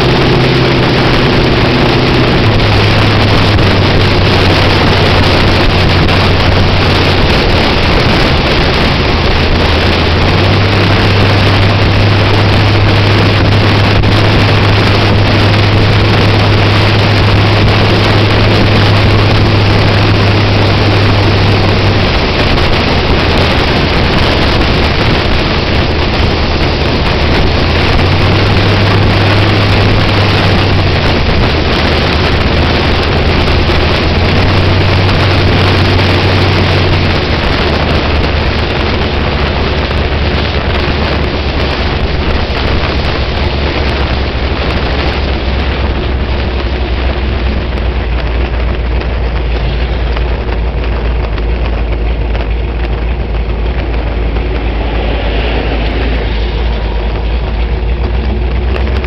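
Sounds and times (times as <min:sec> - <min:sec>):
loud car engine running: 0:00.0 - 0:59.0
wind noise on microphone: 0:00.0 - 0:59.0.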